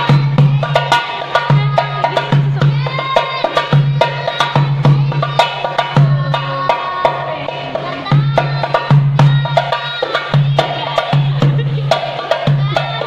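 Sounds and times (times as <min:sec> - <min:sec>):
hand drum rhythm: 0:00.0 - 0:13.0.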